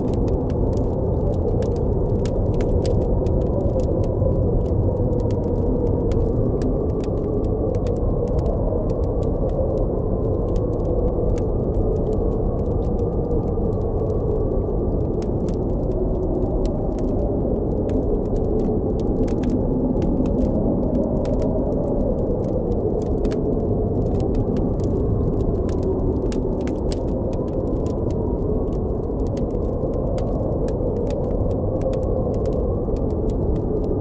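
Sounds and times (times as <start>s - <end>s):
blizzard wind moaning: 0.0s - 34.0s
campfire crackling and popping: 0.0s - 34.0s.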